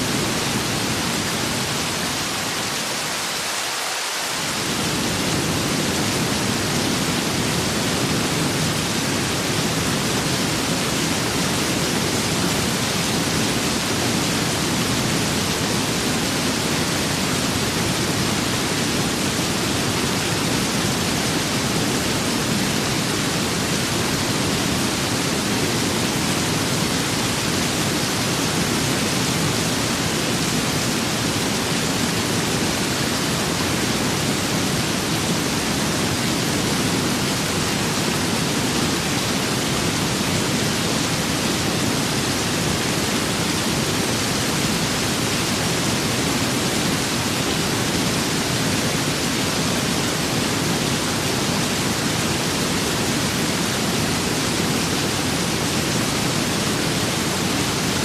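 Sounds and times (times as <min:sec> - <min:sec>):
rain and wind rushing hiss: 0:00.0 - 0:58.0.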